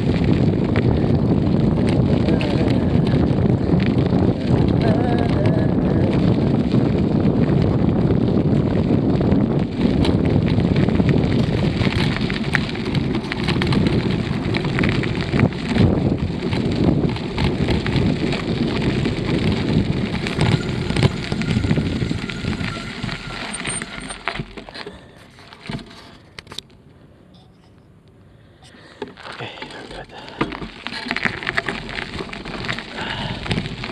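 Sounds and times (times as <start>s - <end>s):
wind buffeting microphone: 0.0s - 25.4s, 30.6s - 33.9s
bicycle crackles and rattles: 0.0s - 26.9s, 28.5s - 33.9s.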